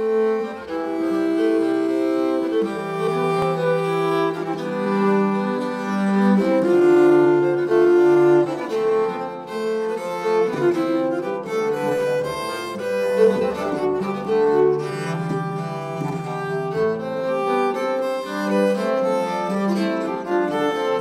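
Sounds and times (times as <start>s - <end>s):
bowed strings playing: 0.0s - 21.0s.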